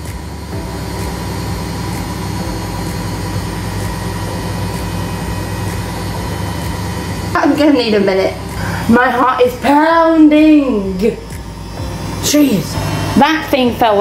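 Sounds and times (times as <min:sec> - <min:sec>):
appliance droning: 0:00.0 - 0:14.0.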